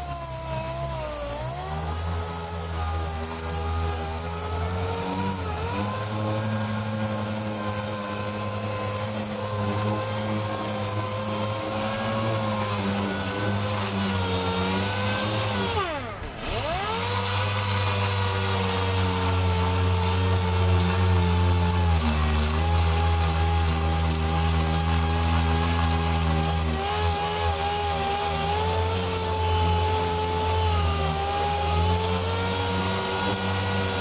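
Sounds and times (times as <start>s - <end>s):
pneumatic sander whining: 0.0s - 34.0s.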